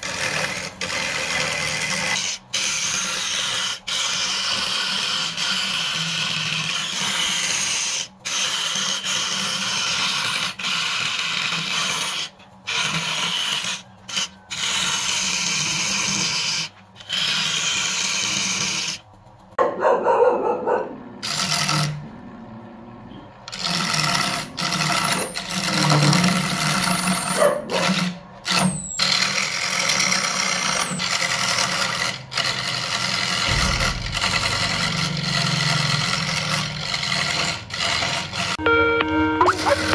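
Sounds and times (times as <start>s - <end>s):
chisel scraping wood on lathe: 0.0s - 19.5s, 21.2s - 38.6s, 39.4s - 39.9s.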